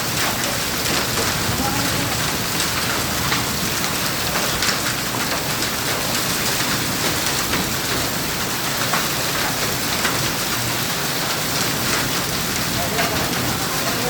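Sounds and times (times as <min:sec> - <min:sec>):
hailstones ticking: 0:00.0 - 0:14.0
heavy rain hissing: 0:00.0 - 0:14.0.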